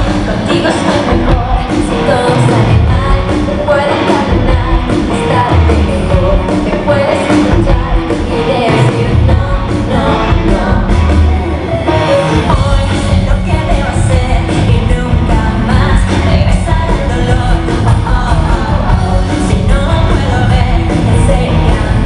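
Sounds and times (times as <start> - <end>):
live pop-rock band with singing: 0.0 - 22.0.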